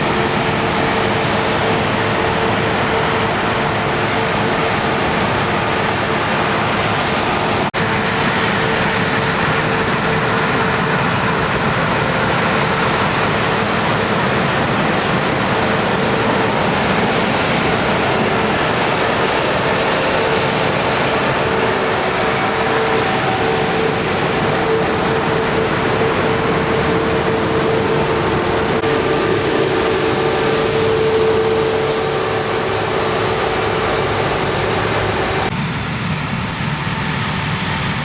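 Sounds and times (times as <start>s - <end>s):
farm machinery rushing and whining: 0.0s - 38.0s.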